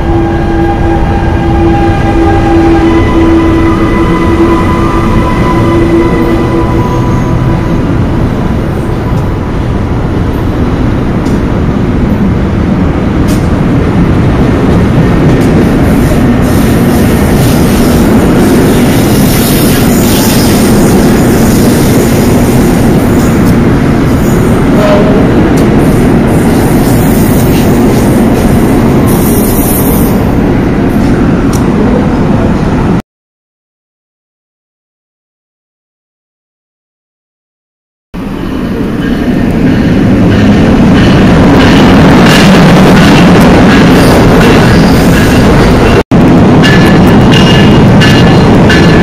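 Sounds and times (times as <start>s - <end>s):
train wheels rumbling on rails: 0.0s - 33.0s, 38.2s - 49.0s.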